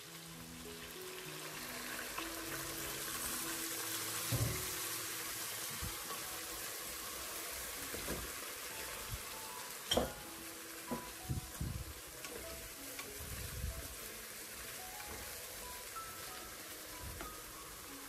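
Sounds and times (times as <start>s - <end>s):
chicken sizzling in frying pan: 0.0s - 18.0s
soft background music: 0.0s - 18.0s.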